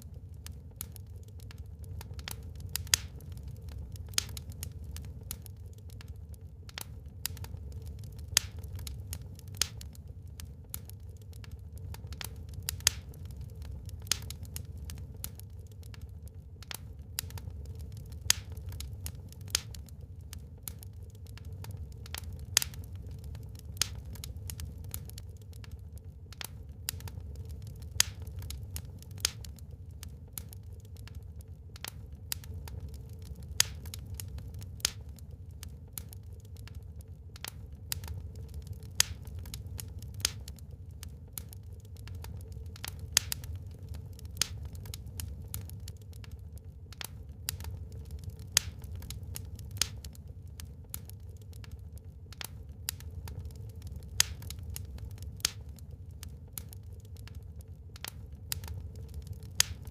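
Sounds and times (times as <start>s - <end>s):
low rumble of fire: 0.0s - 59.9s
wood fire crackling and popping: 0.0s - 59.9s.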